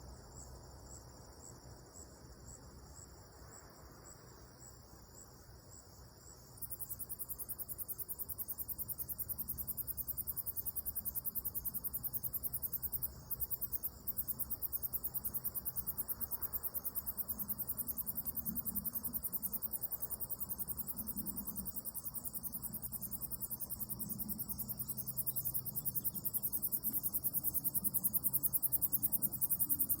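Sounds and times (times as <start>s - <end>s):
insects faint high pulsing: 0.0s - 30.0s.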